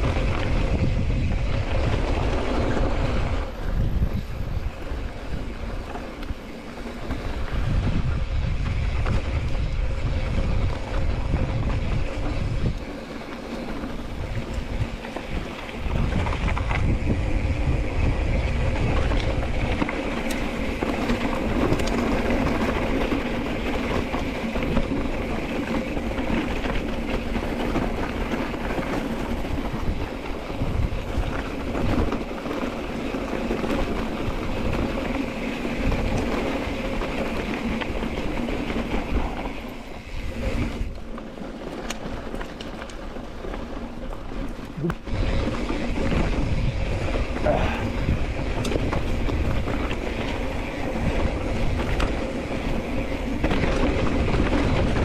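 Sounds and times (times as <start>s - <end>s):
bike rattling over rough ground: 0.0s - 55.0s
wind buffeting microphone: 0.0s - 55.0s.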